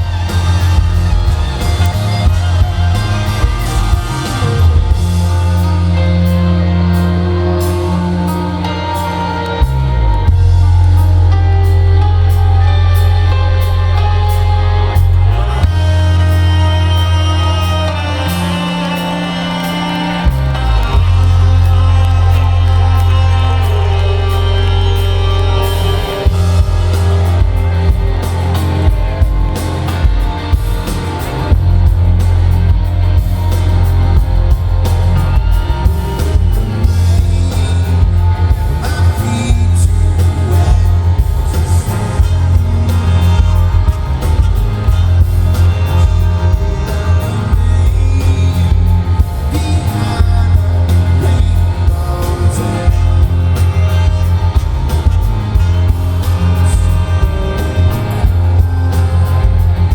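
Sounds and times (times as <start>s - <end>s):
electric guitar: 0.0s - 59.9s
live rock band playing: 0.0s - 59.9s
person singing: 0.0s - 59.9s
strong bass: 0.0s - 59.9s.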